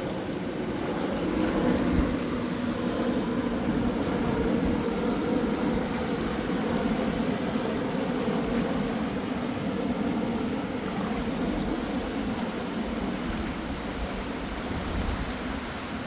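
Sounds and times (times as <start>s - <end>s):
gentle sea waves: 0.0s - 16.0s.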